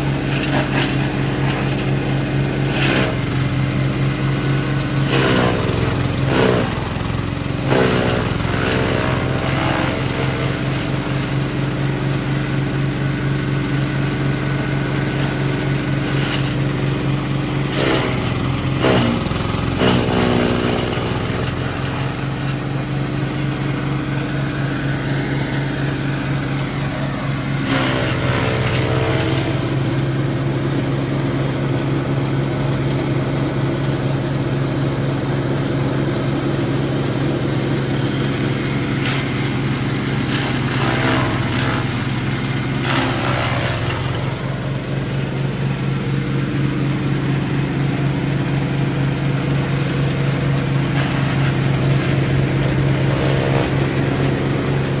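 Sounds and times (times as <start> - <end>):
blades chopping fodder stalks: 0.0 - 31.0, 37.0 - 55.0
chaff cutter motor hum: 0.0 - 55.0.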